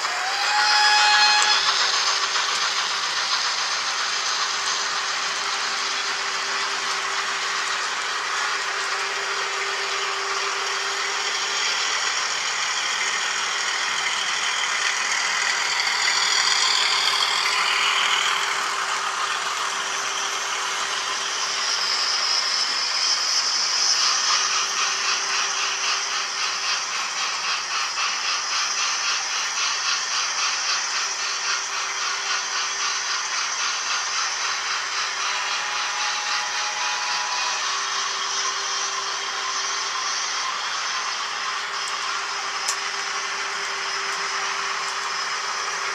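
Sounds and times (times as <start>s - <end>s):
model train wheels rattling on rails: 0.0s - 45.9s.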